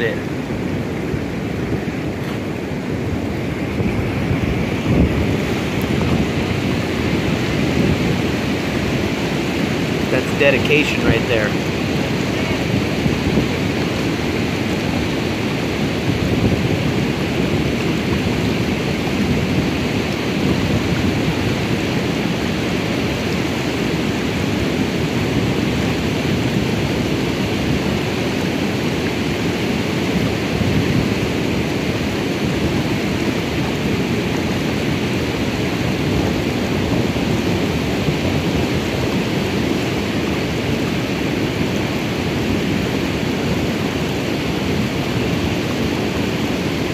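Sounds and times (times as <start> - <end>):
river rushing over riffle: 0.0 - 46.9.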